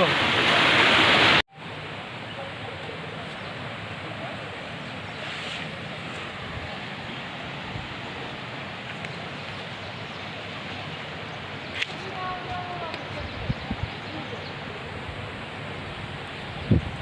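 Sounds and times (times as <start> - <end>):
forest river flowing: 0.0 - 17.0.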